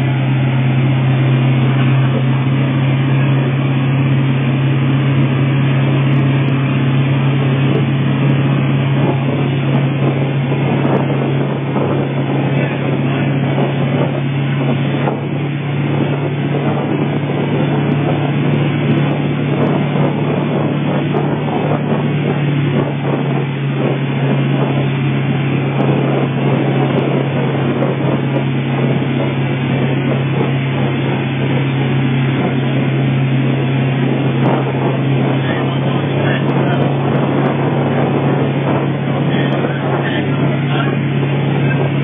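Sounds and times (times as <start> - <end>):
boat engine drone: 0.0 - 42.0
water rushing in wake: 0.0 - 42.0.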